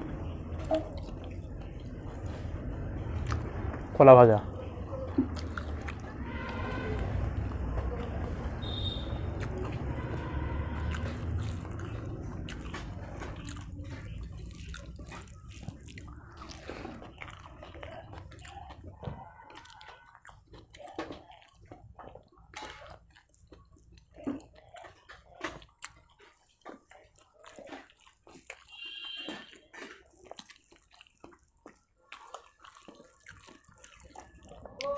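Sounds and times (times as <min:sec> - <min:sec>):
chewing and mouth smacks: 0:00.0 - 0:03.7, 0:04.4 - 0:06.4, 0:07.0 - 0:34.9.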